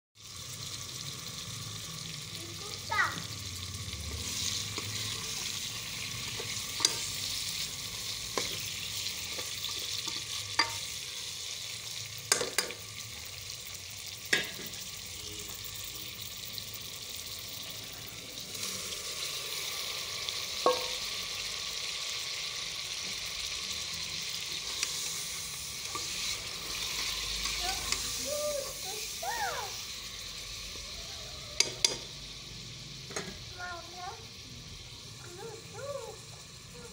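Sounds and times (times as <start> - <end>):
meat sizzling in hot oil: 0.2 - 36.9.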